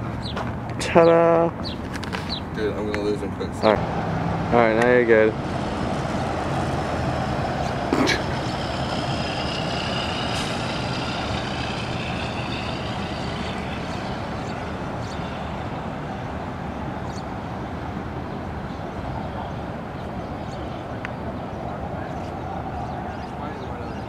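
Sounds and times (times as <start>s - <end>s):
outdoor rushing noise: 0.0s - 24.0s.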